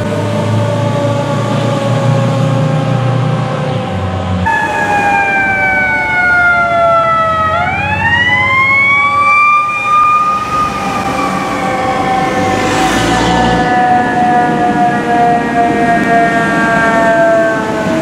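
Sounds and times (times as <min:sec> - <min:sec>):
fire engine sirens wailing: 0:00.0 - 0:18.0.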